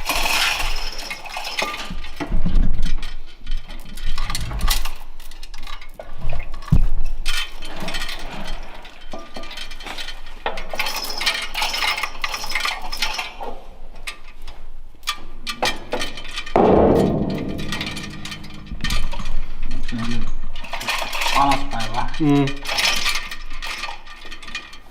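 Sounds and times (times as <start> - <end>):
metal tools clinking: 0.0 - 6.1, 7.2 - 24.9
metallic rattle: 0.0 - 24.9.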